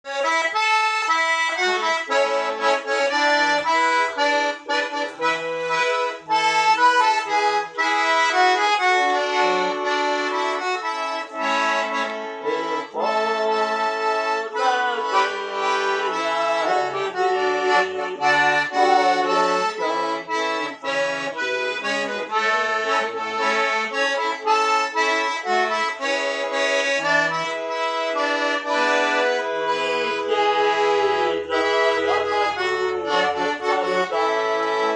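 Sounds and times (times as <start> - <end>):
accordion playing lively tune: 0.0 - 34.9.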